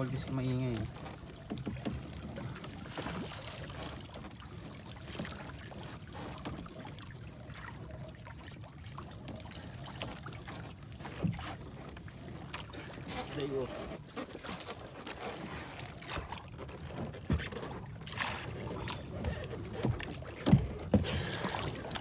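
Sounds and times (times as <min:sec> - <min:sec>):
water lapping against boat: 0:00.0 - 0:22.0.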